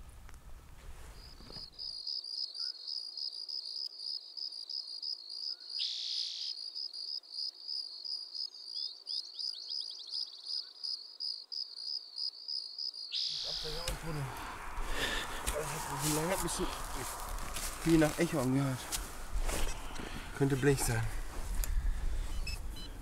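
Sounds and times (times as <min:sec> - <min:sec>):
crickets chirping: 0:00.4 - 0:23.0.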